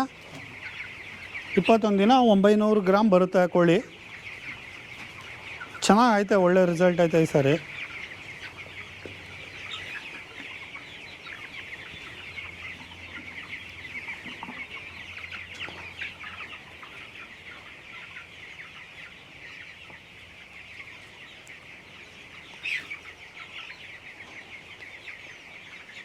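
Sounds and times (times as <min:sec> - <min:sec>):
chicks peeping and chirping: 0:00.0 - 0:26.0.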